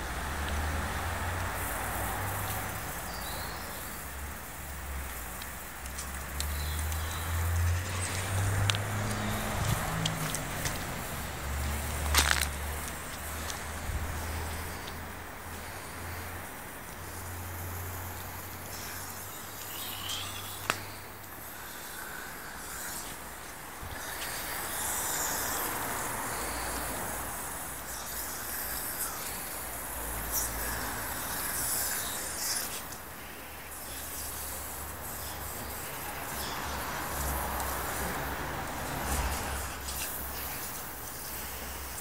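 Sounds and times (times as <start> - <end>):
water jet hissing and splashing: 0.0 - 42.0.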